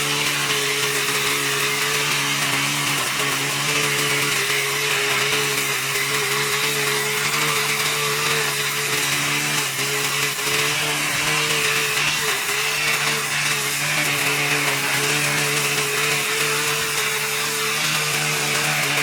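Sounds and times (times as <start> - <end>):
small motor running: 0.0 - 19.0.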